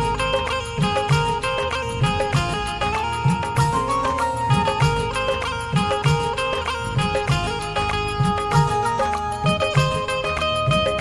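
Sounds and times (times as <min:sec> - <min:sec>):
banjo melody: 0:00.0 - 0:11.0
steady drum beat: 0:00.0 - 0:11.0.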